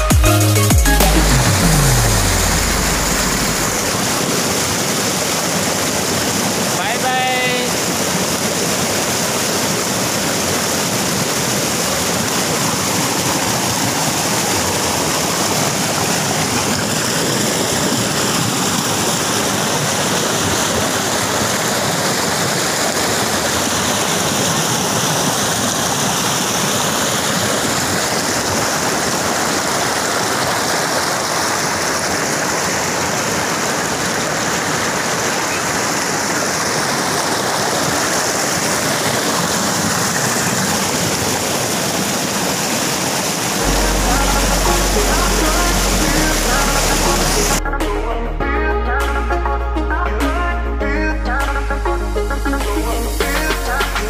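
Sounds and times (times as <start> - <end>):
waterfall rushing over boulders: 1.1 - 47.6, 52.4 - 54.0.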